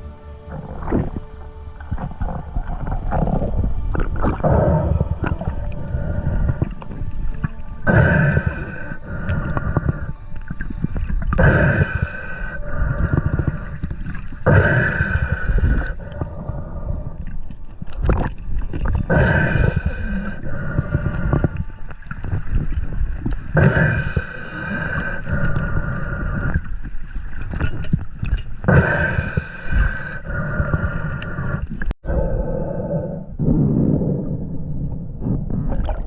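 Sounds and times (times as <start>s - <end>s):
breathing through a snorkel: 0.0s - 22.6s, 23.5s - 26.8s, 28.7s - 34.5s
water gurgling and sloshing: 0.0s - 36.0s.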